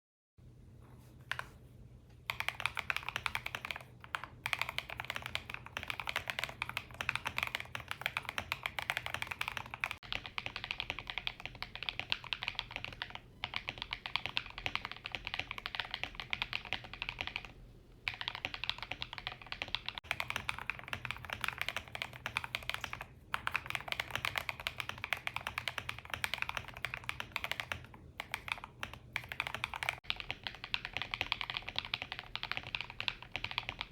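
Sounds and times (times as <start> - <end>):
fast mechanical keyboard typing: 2.3 - 17.5, 18.1 - 33.9.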